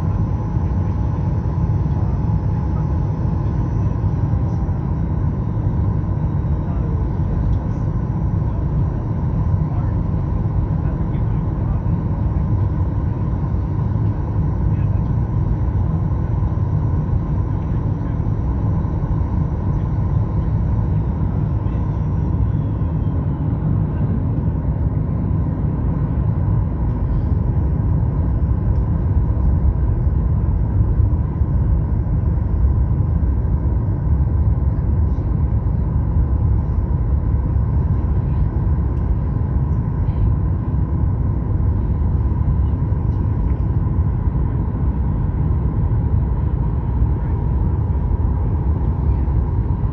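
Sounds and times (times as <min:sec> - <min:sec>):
airplane cabin engine rumble: 0:00.0 - 0:49.9
faint steady whine: 0:00.0 - 0:49.9.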